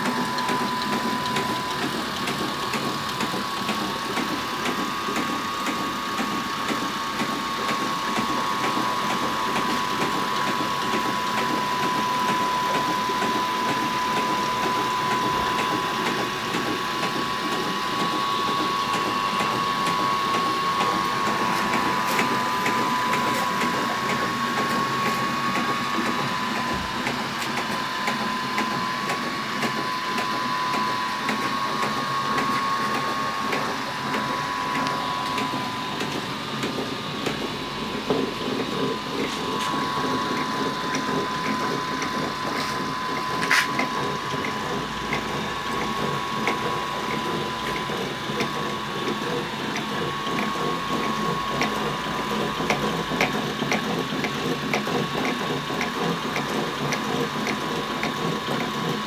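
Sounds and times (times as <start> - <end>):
constant whine: 7.6 - 59.0.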